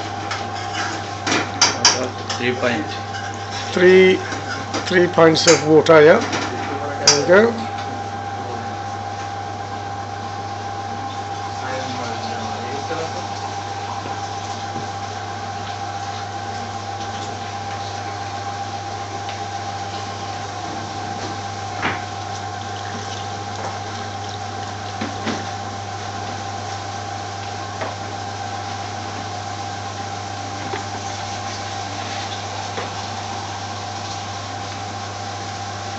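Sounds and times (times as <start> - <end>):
kitchen machinery hum and hiss: 0.0 - 35.9.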